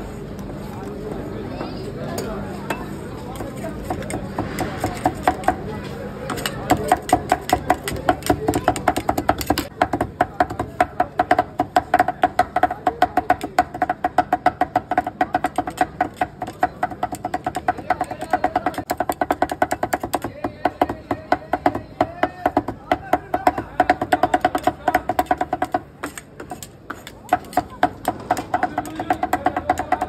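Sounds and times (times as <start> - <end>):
cleavers chopping on cutting board: 3.4 - 5.6, 6.3 - 30.0.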